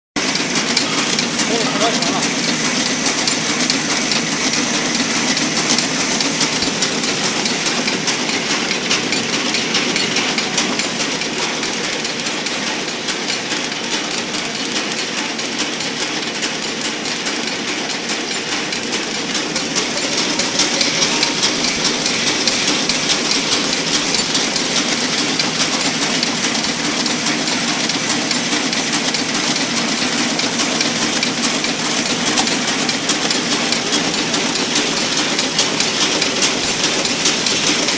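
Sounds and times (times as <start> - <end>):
packing machine clattering: 0.2 - 37.9.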